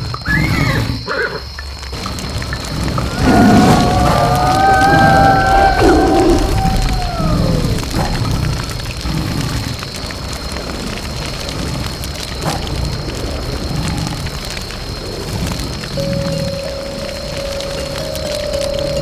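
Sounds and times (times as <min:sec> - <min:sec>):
rain patter: 0:00.0 - 0:19.0.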